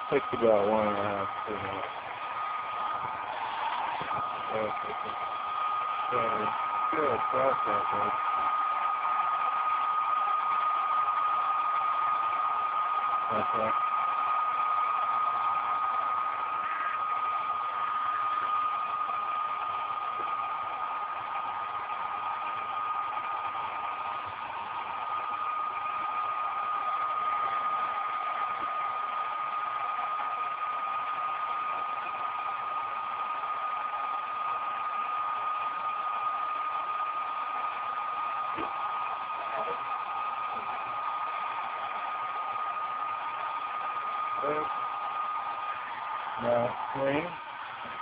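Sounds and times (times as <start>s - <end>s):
hair dryer running: 0.0s - 48.0s.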